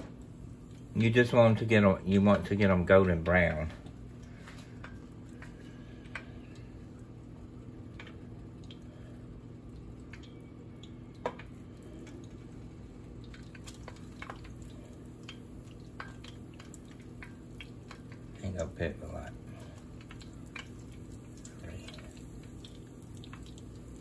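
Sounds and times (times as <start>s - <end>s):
meat frying in hot oil: 0.0s - 24.0s
steady low hum: 0.0s - 24.0s.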